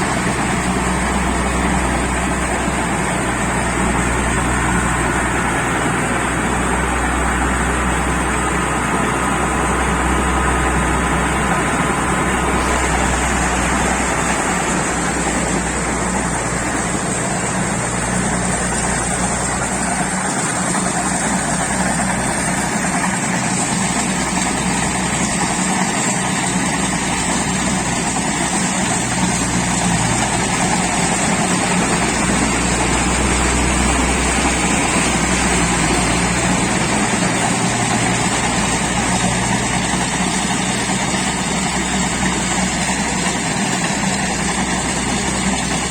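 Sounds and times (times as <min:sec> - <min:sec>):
diesel engine droning: 0:00.0 - 0:45.9
machinery noise: 0:00.0 - 0:45.9.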